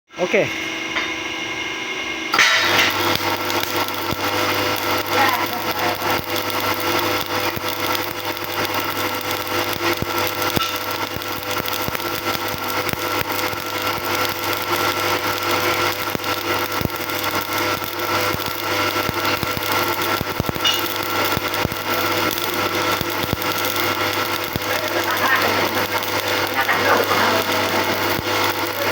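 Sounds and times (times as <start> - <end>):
welding arc crackling: 0.2 - 28.9.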